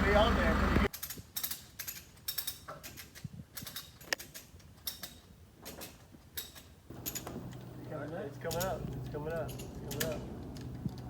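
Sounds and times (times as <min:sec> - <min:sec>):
light mechanical clicks: 0:00.8 - 0:11.0.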